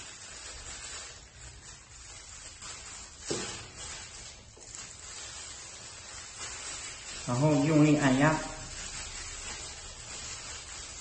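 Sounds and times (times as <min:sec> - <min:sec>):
hands packing cabbage: 0:00.0 - 0:11.0
steady hiss: 0:00.0 - 0:11.0.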